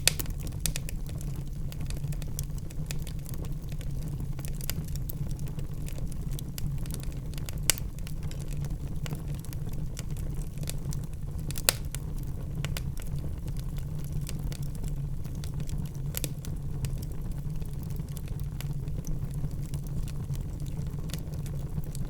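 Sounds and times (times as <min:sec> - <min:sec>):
logs crackling and popping: 0:00.0 - 0:22.0
wood fire rumbling: 0:00.0 - 0:22.0.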